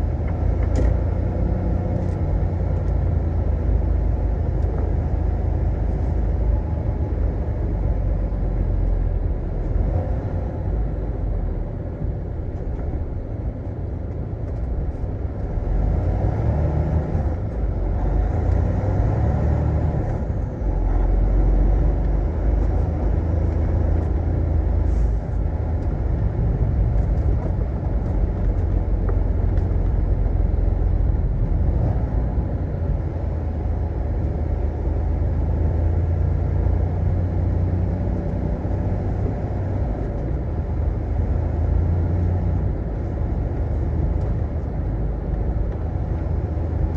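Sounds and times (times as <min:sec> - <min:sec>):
road noise: 0:00.0 - 0:46.9
truck engine rumbling: 0:00.0 - 0:46.9.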